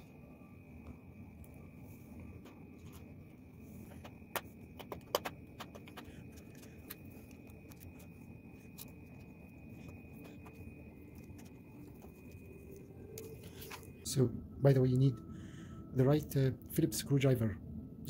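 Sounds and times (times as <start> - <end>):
faint high whine: 0.0 - 18.0
low steady hum: 0.0 - 18.0.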